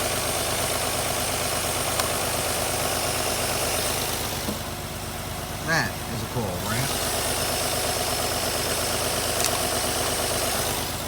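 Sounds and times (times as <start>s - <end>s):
car engine idling with misfire: 0.0s - 11.0s.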